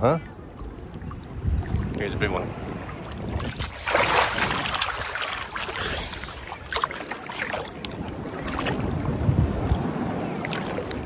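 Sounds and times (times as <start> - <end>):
sea water sloshing and splashing: 0.2 - 11.0.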